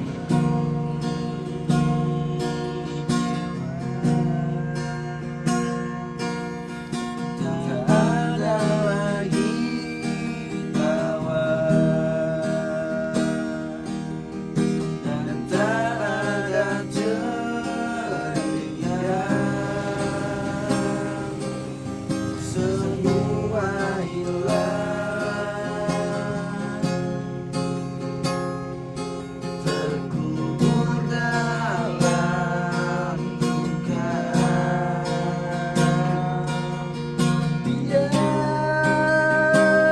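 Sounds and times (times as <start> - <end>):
man singing ornamented notes: 0.0 - 28.4, 29.2 - 39.9.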